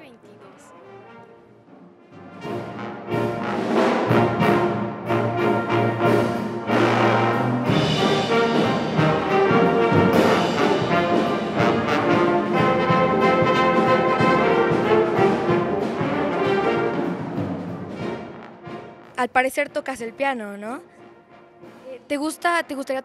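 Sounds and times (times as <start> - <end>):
brass section: 0.0 - 23.0
jazz big band playing: 0.0 - 23.0.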